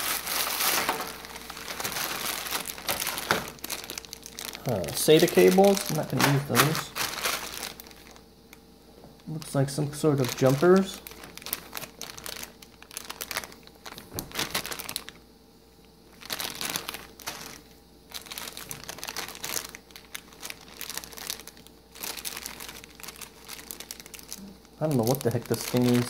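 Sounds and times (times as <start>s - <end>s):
plastic bags crinkling: 0.0s - 8.6s, 9.2s - 26.0s.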